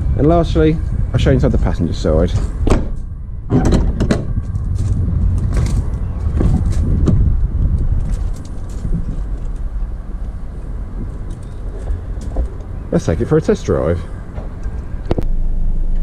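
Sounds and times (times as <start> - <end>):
wind buffeting microphone: 0.0 - 15.3.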